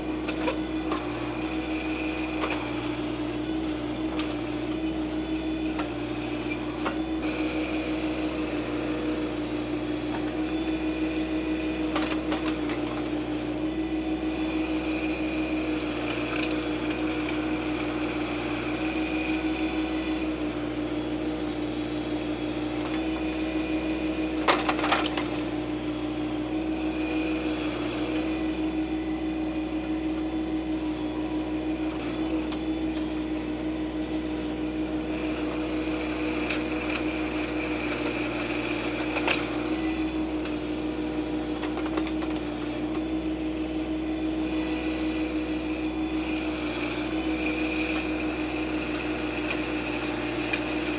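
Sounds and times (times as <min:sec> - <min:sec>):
tractor diesel engine running: 0:00.0 - 0:43.1.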